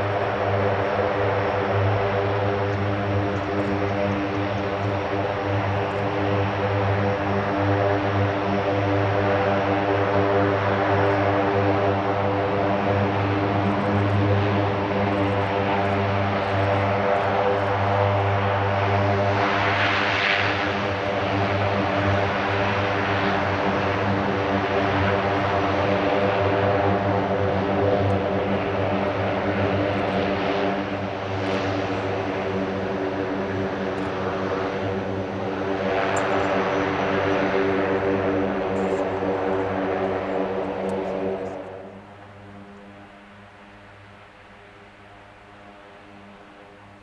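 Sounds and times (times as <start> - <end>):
propeller aircraft drone: 0.0 - 47.0.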